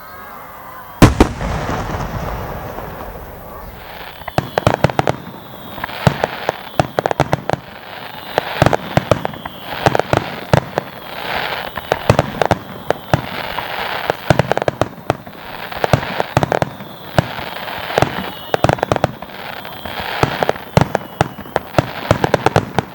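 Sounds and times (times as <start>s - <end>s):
faint firework whistle: 0.0s - 22.9s
fireworks bangs and crackles: 0.9s - 22.9s.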